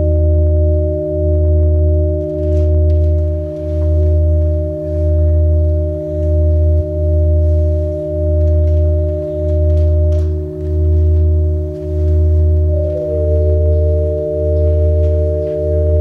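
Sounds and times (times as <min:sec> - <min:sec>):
electronic sine wave drone: 0:00.0 - 0:16.0.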